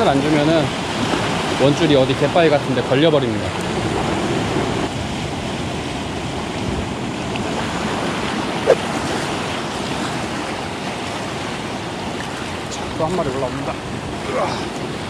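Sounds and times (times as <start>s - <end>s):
waves breaking over rocks: 0.0s - 15.0s.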